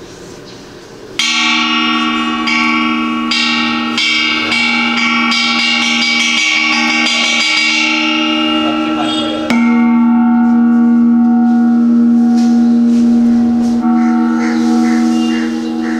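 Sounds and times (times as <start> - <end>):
ringing bell tones: 1.2 - 15.9.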